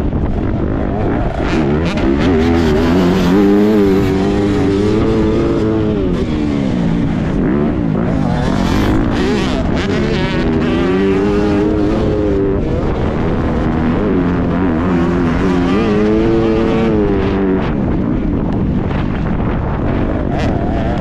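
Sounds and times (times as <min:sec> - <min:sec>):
dirt bike engine revving: 0:00.0 - 0:21.0
rough rushing noise: 0:00.0 - 0:21.0.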